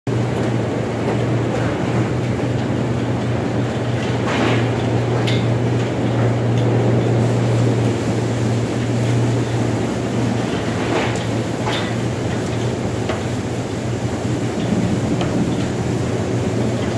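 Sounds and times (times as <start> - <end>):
low hum of motors: 0.1 - 16.9.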